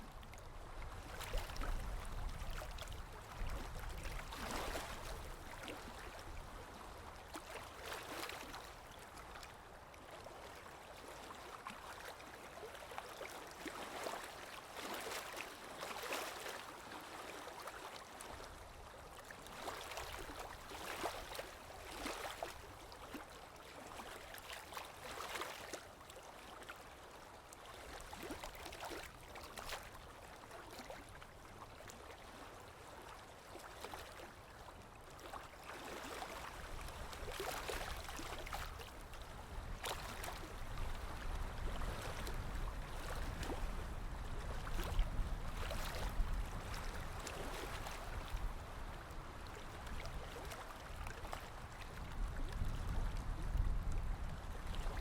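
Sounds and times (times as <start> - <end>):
small waves lapping on shore: 0.0 - 55.0.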